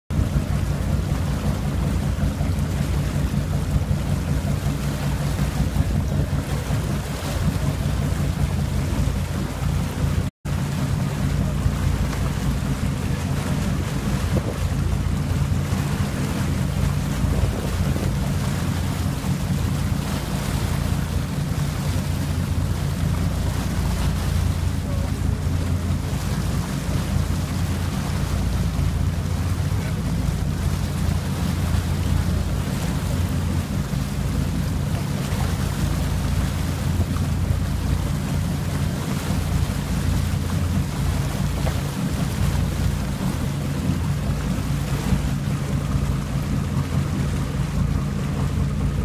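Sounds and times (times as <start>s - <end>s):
boat engine running: 0.1s - 49.0s
water rushing from wake: 0.1s - 49.0s
wind buffeting microphone: 0.1s - 49.0s.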